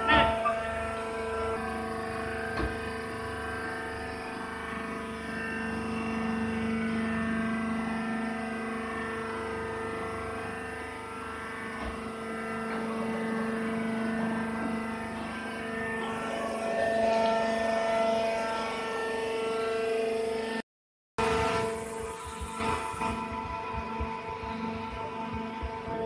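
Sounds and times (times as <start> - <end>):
motor and hydraulic pump humming: 0.0 - 20.6, 21.2 - 26.0.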